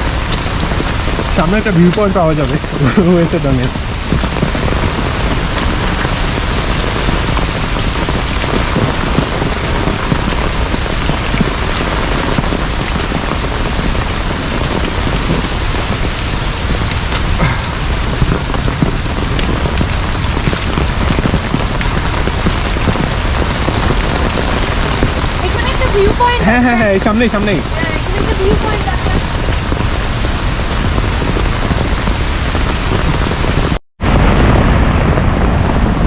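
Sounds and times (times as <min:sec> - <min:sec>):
heavy rain: 0:00.0 - 0:36.0
raindrops pattering: 0:00.0 - 0:36.0.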